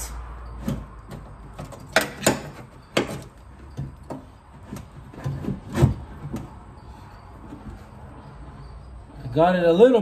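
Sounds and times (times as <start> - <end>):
window glass scraping: 0.5 - 10.0.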